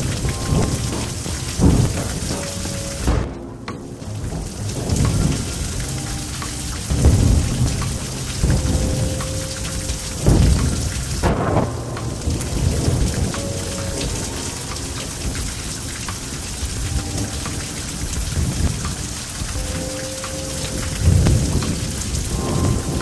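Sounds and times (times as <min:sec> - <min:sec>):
heavy rain pouring: 0:00.0 - 0:23.0
thunder rumbling: 0:00.0 - 0:23.0.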